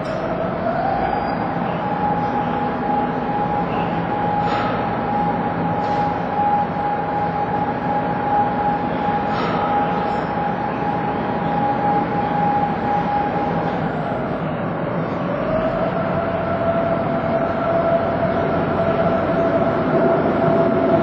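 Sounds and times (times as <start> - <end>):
continuous high whine: 0.0 - 21.0
diesel locomotive engine hum: 0.0 - 21.0.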